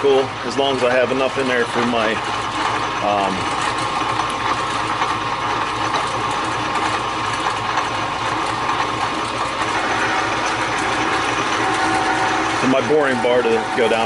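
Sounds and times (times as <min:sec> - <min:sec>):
metal lathe drilling with whine: 0:00.0 - 0:14.0.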